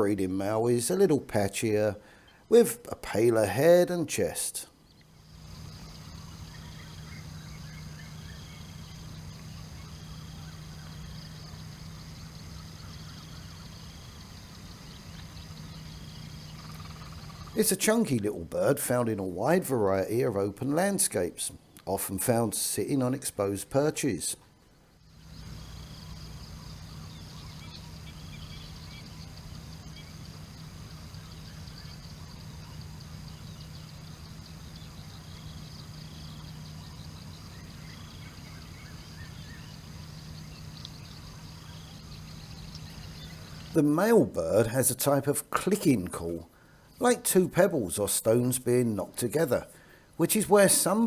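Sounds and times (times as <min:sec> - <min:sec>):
constant low hum: 0:00.0 - 0:51.0
faint chirps: 0:00.0 - 0:51.0.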